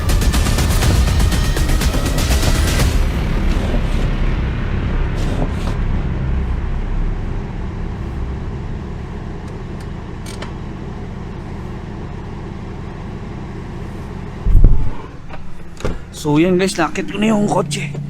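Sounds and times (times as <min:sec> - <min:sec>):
car engine rumble inside cabin: 0:00.0 - 0:18.0.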